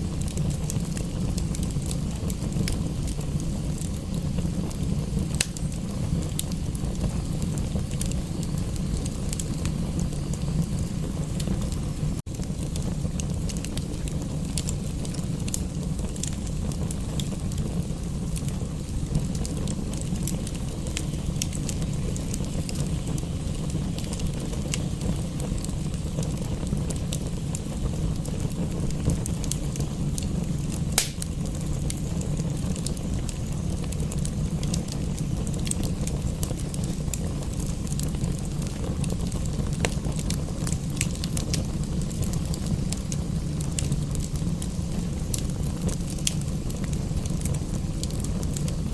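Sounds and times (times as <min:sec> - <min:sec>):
fire popping: 0:00.0 - 0:48.9
wood fire crackling: 0:00.0 - 0:48.9.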